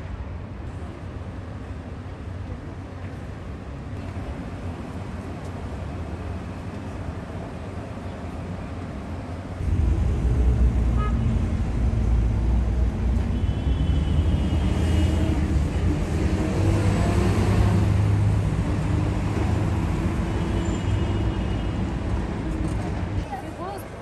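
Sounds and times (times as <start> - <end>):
city road traffic rumble: 0.0 - 24.0.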